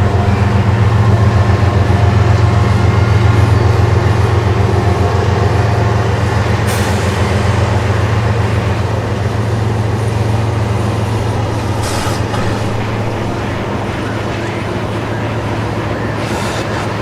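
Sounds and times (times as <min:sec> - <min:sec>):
freight train diesel drone: 0:00.0 - 0:17.0
train rolling rumble: 0:00.0 - 0:17.0.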